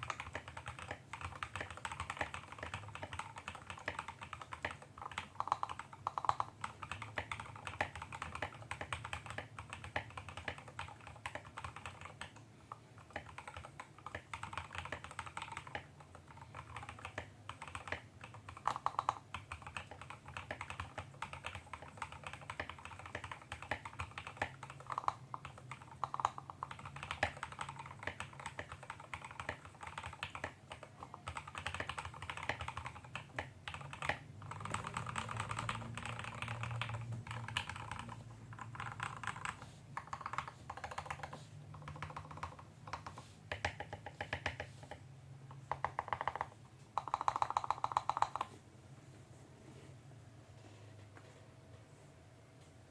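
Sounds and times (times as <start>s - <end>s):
mechanical keyboard typing: 0.0s - 48.6s.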